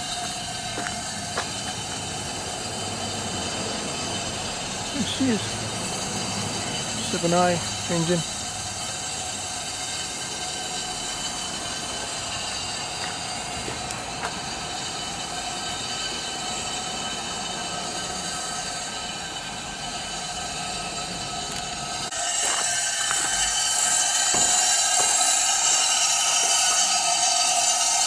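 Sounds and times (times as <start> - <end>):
high whistling tones: 0.0 - 28.0
steam locomotive hissing: 0.0 - 28.0.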